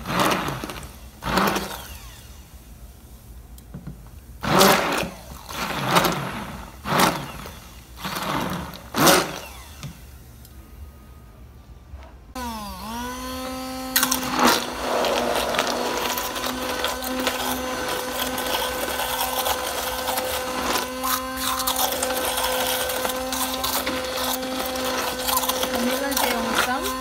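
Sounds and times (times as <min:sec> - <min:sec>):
immersion blender motor whine: 0:00.0 - 0:02.7, 0:04.4 - 0:10.2, 0:12.4 - 0:27.0.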